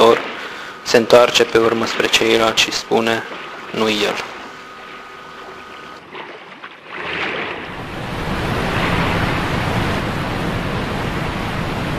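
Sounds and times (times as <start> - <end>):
waves rushing: 0.0 - 11.9.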